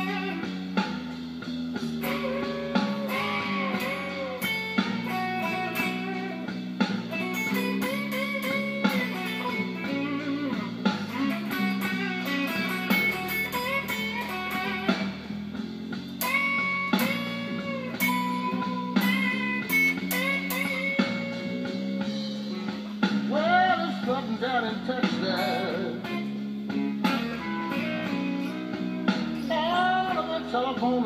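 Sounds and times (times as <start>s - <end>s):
blues backing track: 0.0s - 31.0s
electric blues lead guitar: 0.0s - 31.0s.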